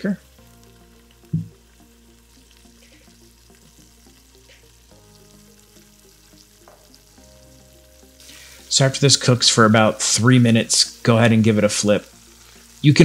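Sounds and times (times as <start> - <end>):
meat sizzling in oil: 0.0 - 13.0
quiet background music: 0.0 - 13.0.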